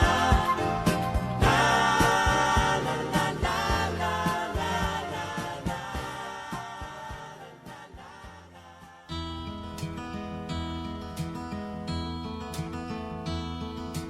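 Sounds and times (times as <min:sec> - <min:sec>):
song with steady beat: 0:00.0 - 0:14.0.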